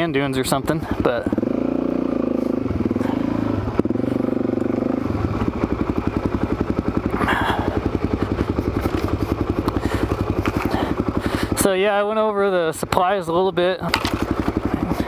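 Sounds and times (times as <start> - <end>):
motorcycle engine chugging: 0.0 - 15.0.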